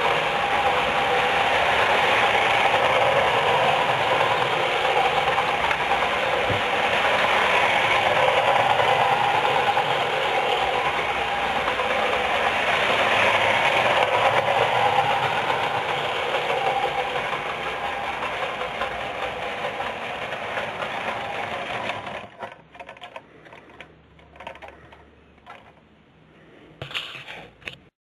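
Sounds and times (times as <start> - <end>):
clockwork toy train whirring: 0.0 - 25.9.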